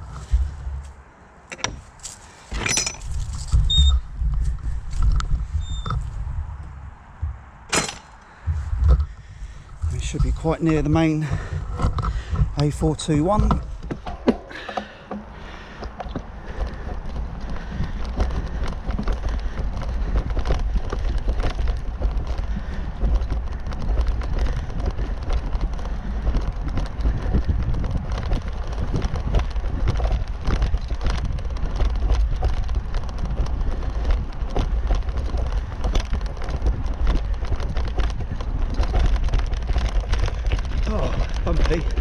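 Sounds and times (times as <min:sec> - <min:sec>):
bicycle rattling over stones: 0:00.0 - 0:42.0
wind rumble on microphone: 0:00.0 - 0:42.0.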